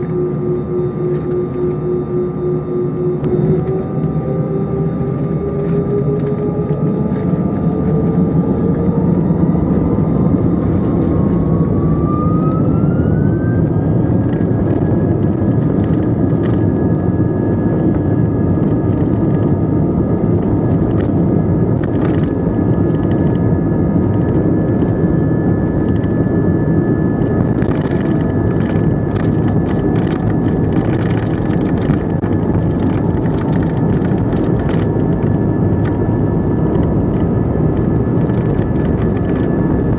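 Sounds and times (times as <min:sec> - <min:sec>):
jet engine roar and whine: 0:00.0 - 0:39.9.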